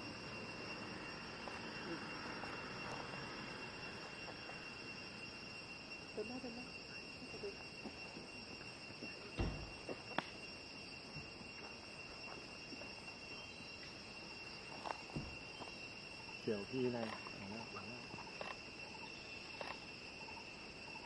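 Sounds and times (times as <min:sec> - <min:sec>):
forest insects droning: 0:00.0 - 0:21.0.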